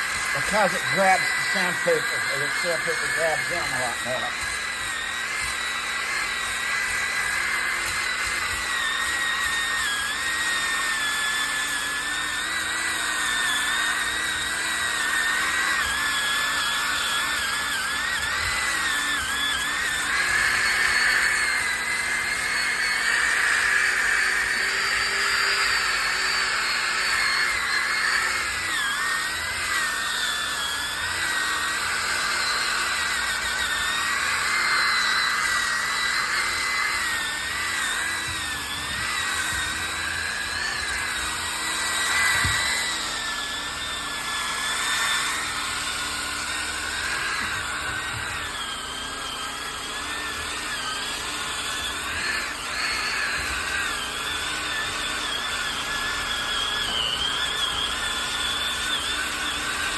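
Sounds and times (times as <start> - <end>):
electric sander whining on wood: 0.0 - 59.9.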